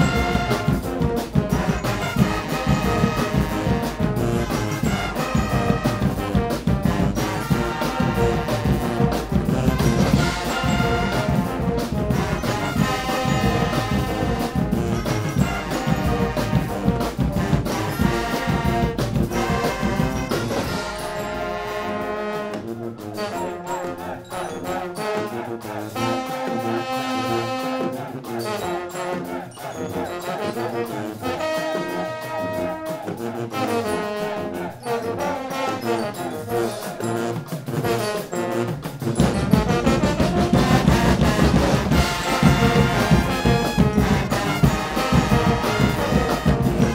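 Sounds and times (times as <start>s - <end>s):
brass instruments playing: 0.0s - 46.9s
drums and cymbals: 0.0s - 46.9s.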